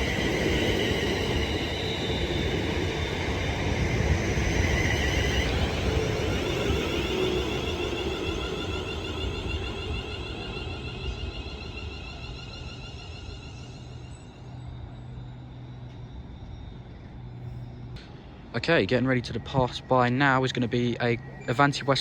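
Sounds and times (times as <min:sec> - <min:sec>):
electric train rumble and whine: 0:00.0 - 0:22.0.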